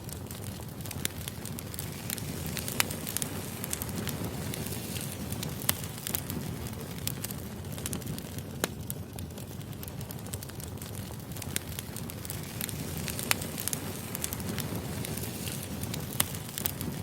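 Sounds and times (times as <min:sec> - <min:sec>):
burning logs crackling and popping: 0:00.0 - 0:17.0
flames rumbling: 0:00.0 - 0:17.0.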